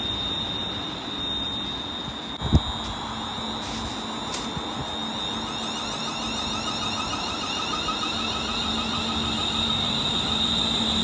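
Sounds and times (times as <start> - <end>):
train electric whine: 0.0 - 11.0
wheel and rail noise: 0.0 - 11.0.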